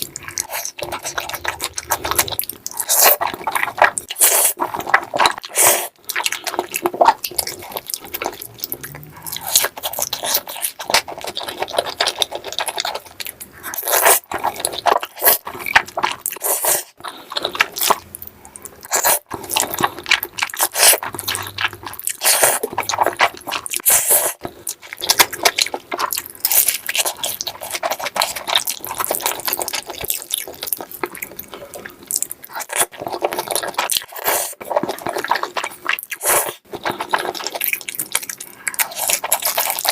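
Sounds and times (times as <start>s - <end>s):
crunching and wet chewing: 0.0s - 39.9s.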